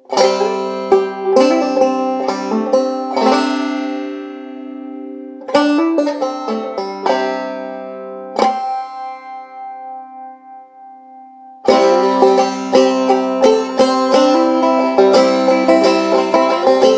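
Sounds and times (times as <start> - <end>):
banjo playing bluegrass: 0.0 - 16.9.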